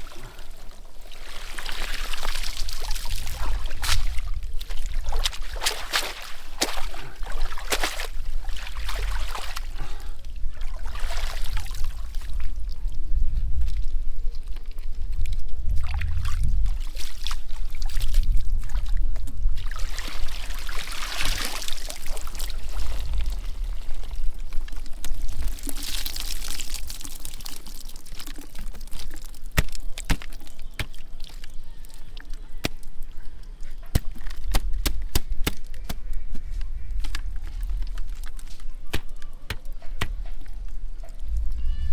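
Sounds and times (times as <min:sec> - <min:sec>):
water pouring and splashing: 0:00.0 - 0:36.0, 0:36.9 - 0:41.6.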